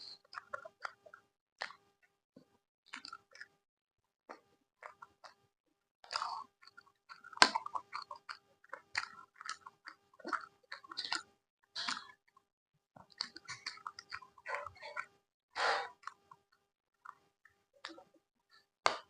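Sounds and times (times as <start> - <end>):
chewing with wet mouth sounds: 0.0 - 3.6, 4.3 - 5.4, 6.1 - 12.4, 13.0 - 19.0.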